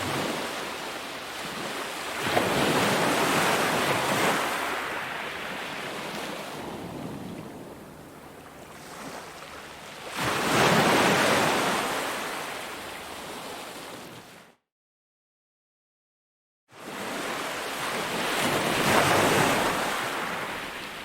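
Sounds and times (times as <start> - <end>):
sea waves washing onto beach: 0.0 - 14.0, 16.9 - 21.0.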